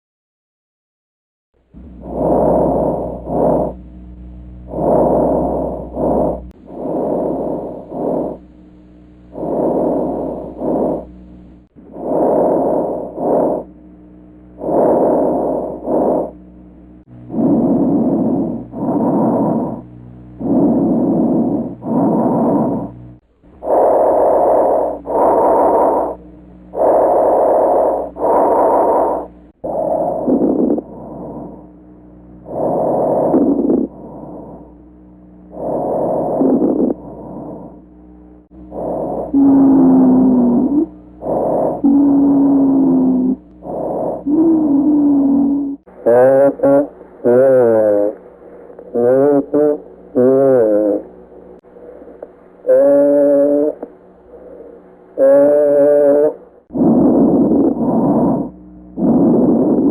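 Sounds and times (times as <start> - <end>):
low hum: 1.6 - 59.9
noisy breathing: 1.6 - 59.9.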